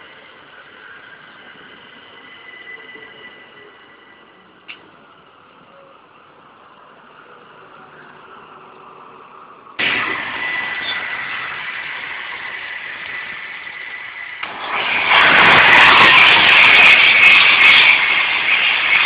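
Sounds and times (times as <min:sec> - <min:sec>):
steady high whine: 0:00.0 - 0:19.0
trains rushing past: 0:00.0 - 0:19.0.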